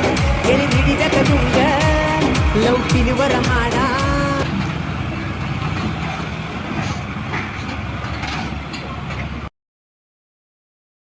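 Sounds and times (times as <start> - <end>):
tractor diesel engine running: 0.0 - 9.5.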